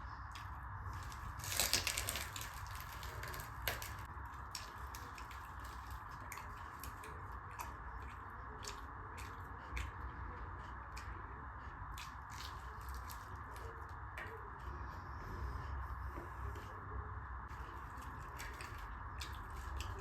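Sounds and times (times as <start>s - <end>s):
steady background hum: 0.0s - 20.0s
wet chewing and lip-smacking: 0.3s - 15.2s, 17.5s - 20.0s.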